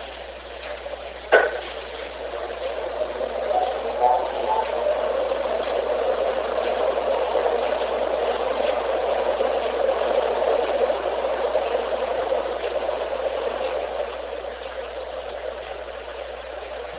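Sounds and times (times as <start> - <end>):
loud static hiss: 0.0 - 16.9.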